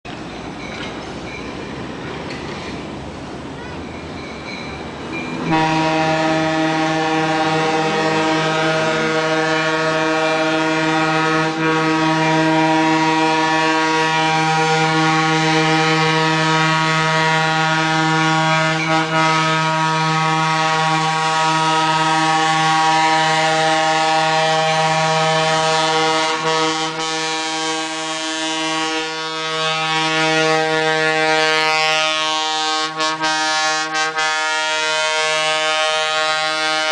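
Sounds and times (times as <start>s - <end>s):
locomotive air horn blast: 5.4s - 36.9s.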